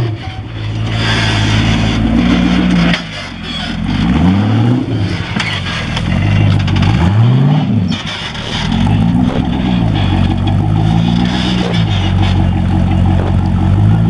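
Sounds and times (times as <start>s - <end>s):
buggy engine revving: 0.0s - 14.0s.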